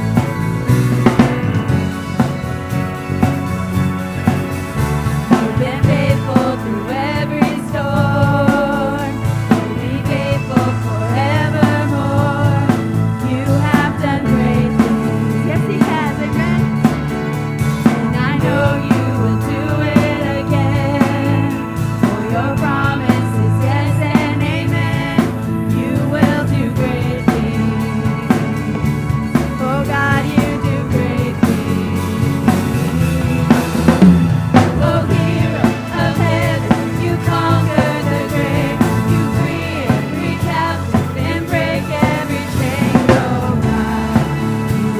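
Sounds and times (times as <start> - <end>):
band playing worship song: 0.0 - 44.9
steady drum beat: 0.0 - 44.9
sustained bass notes: 0.0 - 44.9
person singing: 5.3 - 16.8, 17.9 - 32.6, 34.0 - 44.9.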